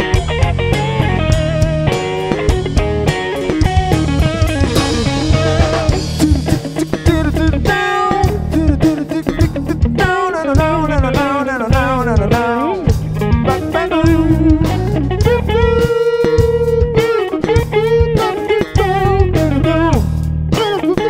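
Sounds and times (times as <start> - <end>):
drum kit: 0.0 - 21.0
electric bass: 0.0 - 21.0
electric guitar lead line: 0.0 - 21.0.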